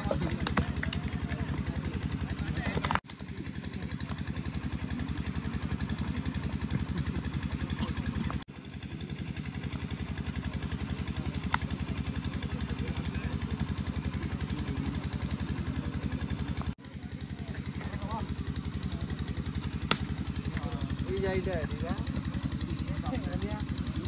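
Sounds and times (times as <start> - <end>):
engine running with pulsing throb: 0.0 - 24.0.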